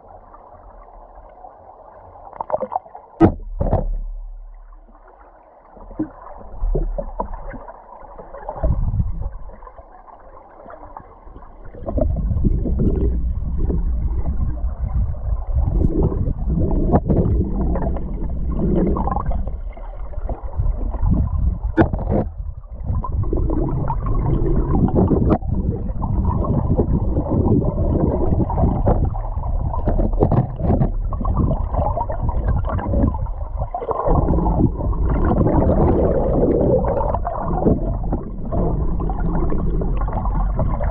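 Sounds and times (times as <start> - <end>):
underwater river rushing: 0.0 - 40.9.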